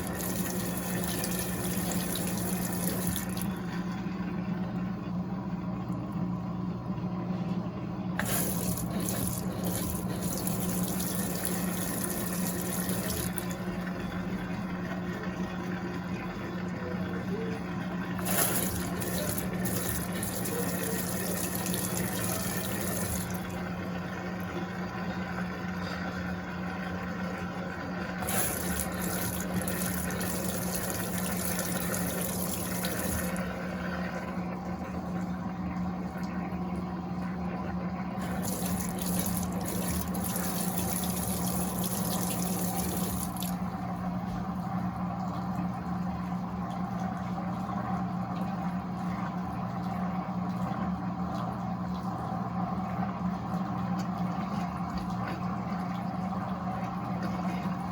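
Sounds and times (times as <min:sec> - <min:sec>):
washing machine pump hum: 0:00.0 - 0:57.9.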